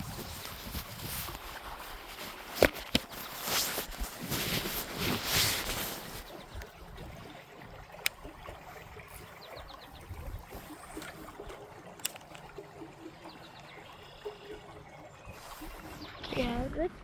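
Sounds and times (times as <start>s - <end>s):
faint creek water running: 0.0s - 17.0s.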